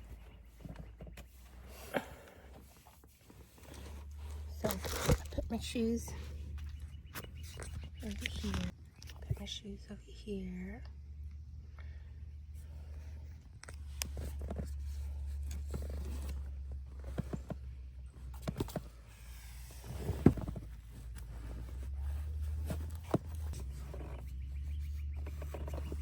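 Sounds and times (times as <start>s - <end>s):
handling and rustling noise: 0.0s - 9.4s, 13.0s - 26.0s
knocks and scrapes of objects: 0.0s - 9.4s, 13.7s - 26.0s.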